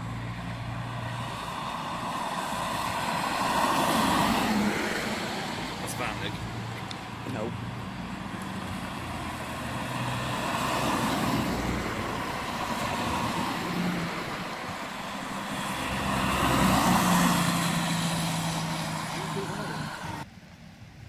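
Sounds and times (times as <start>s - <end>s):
car engines running: 0.0s - 20.3s.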